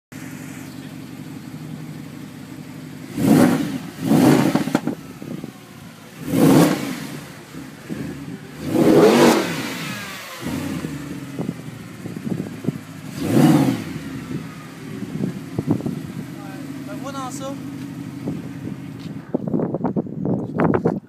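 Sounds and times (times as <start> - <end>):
car engine idling and revving: 0.1 - 21.0.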